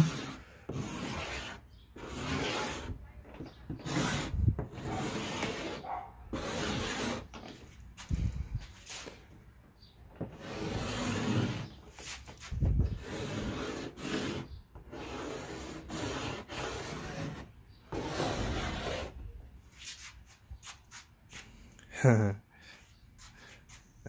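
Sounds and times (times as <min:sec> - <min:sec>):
chalk scraping on board: 0:00.0 - 0:09.2, 0:10.2 - 0:21.5.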